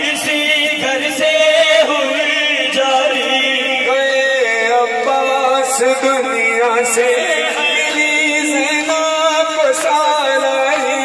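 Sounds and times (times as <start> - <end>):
man chanting through microphone: 0.0 - 11.0.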